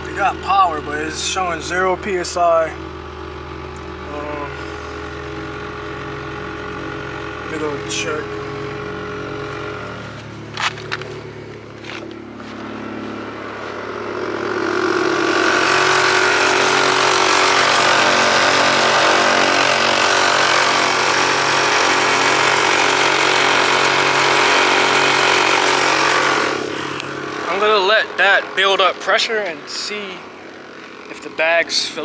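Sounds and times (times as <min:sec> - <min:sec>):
air compressor running: 0:00.0 - 0:32.0.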